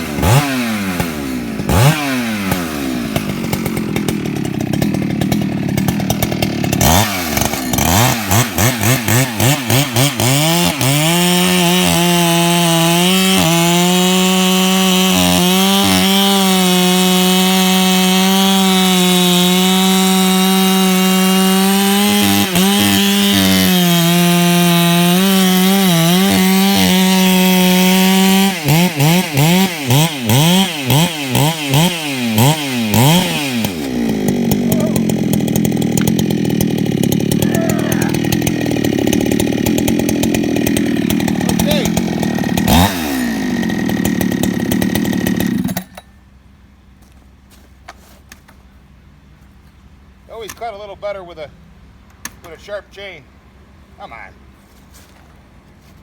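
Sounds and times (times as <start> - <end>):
chainsaw revving and cutting log: 0.0 - 46.1.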